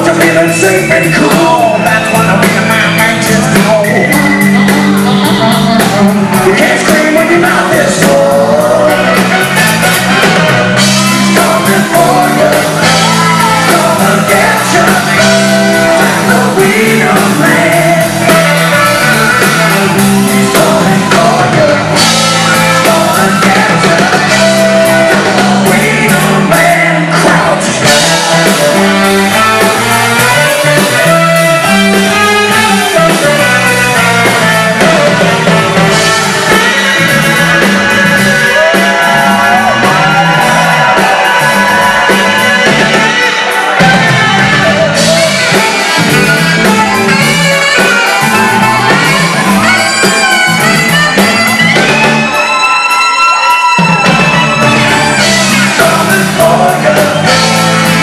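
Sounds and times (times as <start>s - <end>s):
live funk rock band: 0.0s - 58.0s
person singing lead vocals: 0.0s - 58.0s
shouted backing vocals: 0.0s - 58.0s.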